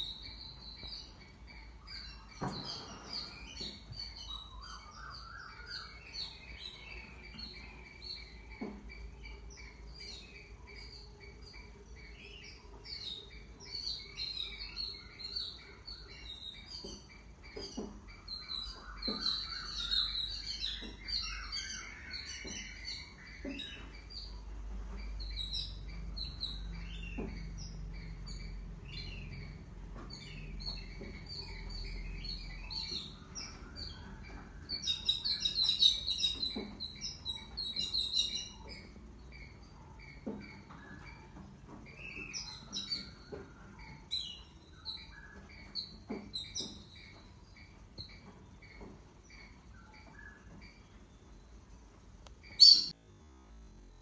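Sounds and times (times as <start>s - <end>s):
shrill chirping calls: 0.0s - 53.0s.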